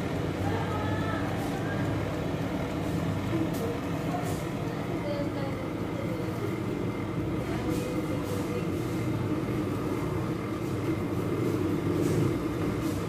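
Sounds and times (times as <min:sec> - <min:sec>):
oven fan humming: 0:00.0 - 0:13.0.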